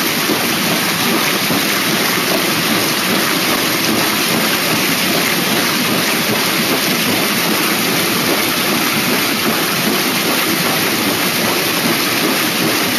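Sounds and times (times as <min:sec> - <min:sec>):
floodwater rushing: 0:00.0 - 0:12.9.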